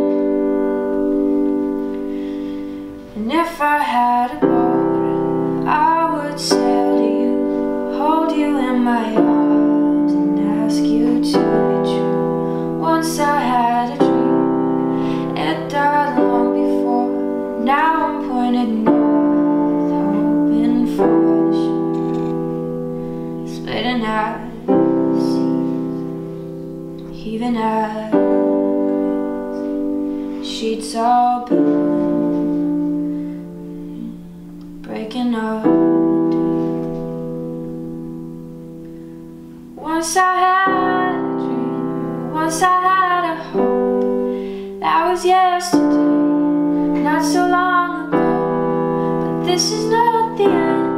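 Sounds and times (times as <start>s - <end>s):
electronic keyboard piano chords: 0.0s - 50.9s.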